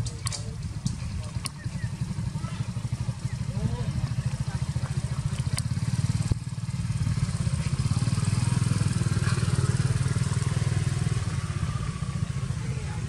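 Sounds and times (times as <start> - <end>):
engine pulsing throb: 0.0 - 13.0.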